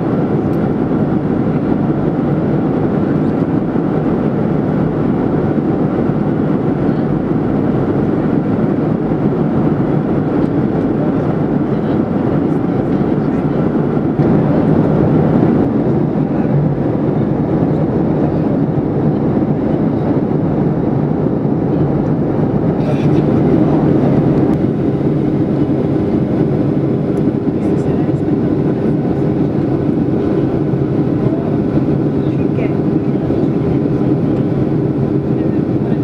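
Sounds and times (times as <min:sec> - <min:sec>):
airplane cabin engine noise: 0:00.0 - 0:36.0.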